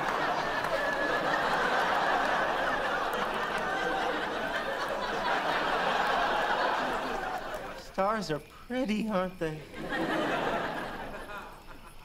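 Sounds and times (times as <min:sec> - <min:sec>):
studio audience laughter: 0:00.0 - 0:07.8, 0:09.8 - 0:12.0.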